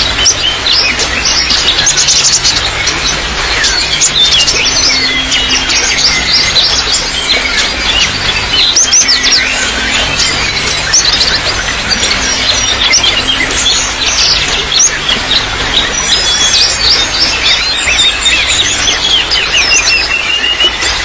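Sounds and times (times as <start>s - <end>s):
small birds chirping: 0.0s - 21.0s
trickling water: 0.0s - 21.0s.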